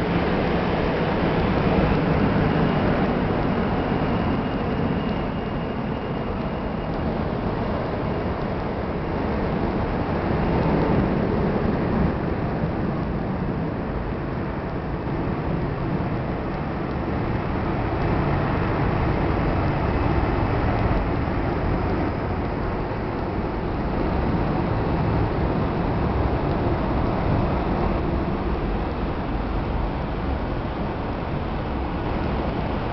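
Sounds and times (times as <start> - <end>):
distant jet engine rumble: 0.0 - 32.9.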